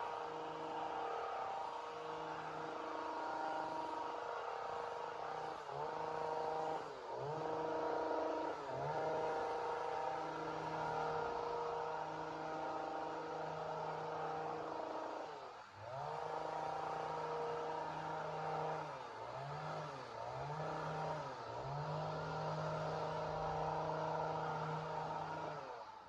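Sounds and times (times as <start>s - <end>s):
chainsaw engine at high revs: 0.0s - 26.0s.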